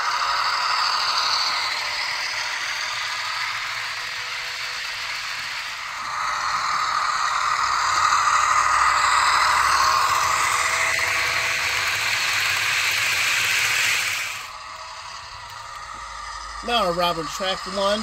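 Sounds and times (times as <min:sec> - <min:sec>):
model train wheels rattling on rail: 0:00.0 - 0:18.0.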